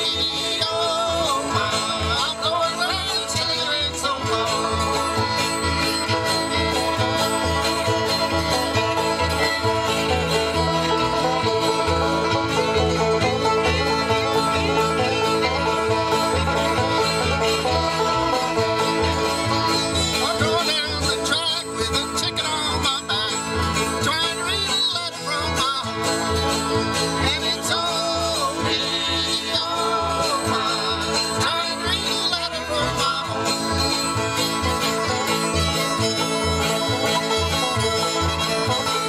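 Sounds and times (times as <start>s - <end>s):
acoustic guitar: 0.0s - 39.0s
banjo: 0.0s - 39.0s
fiddle: 0.0s - 39.0s
mandolin: 0.0s - 39.0s
upright bass: 0.0s - 39.0s.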